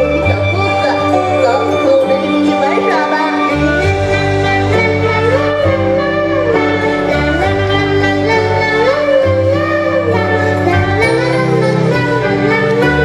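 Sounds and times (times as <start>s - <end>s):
held bass notes: 0.0s - 13.0s
slow melody with gliding notes: 0.0s - 13.0s.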